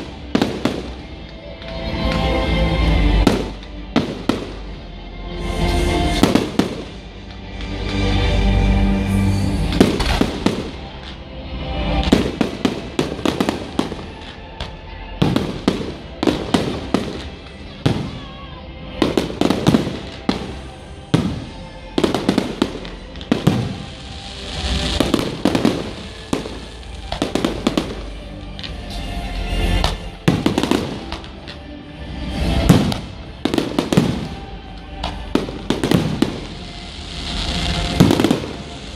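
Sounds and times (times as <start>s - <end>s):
fireworks bangs and crackle: 0.0s - 4.8s, 5.5s - 38.9s
music playing: 0.0s - 38.9s.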